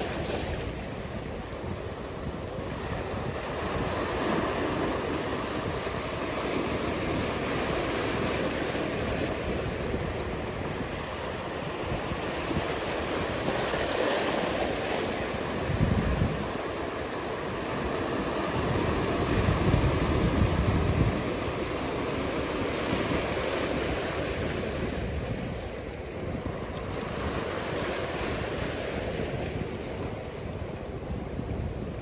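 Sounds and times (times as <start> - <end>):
ocean waves breaking: 0.0 - 32.0
wind on microphone: 0.0 - 32.0.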